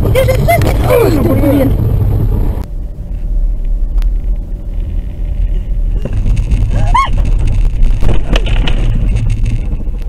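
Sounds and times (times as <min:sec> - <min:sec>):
car driving low rumble: 0:00.0 - 0:10.0.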